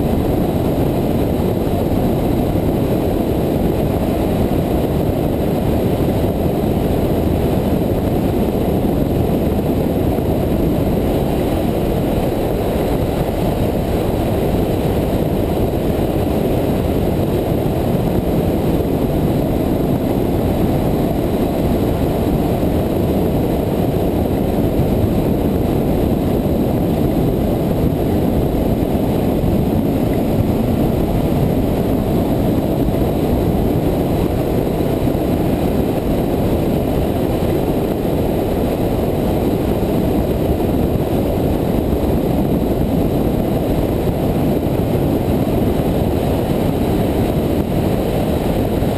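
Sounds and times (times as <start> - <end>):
motorcycle engine roaring: 0.0 - 48.9
wind rushing: 0.0 - 48.9.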